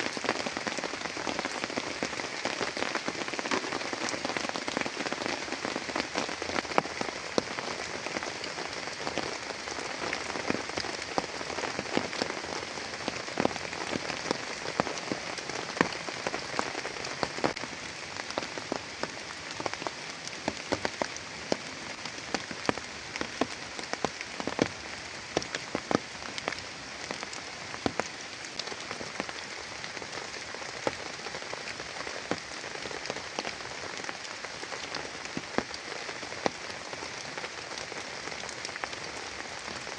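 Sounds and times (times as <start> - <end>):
heavy rain hissing: 0.0 - 39.9
raindrops tapping close by: 0.0 - 39.9.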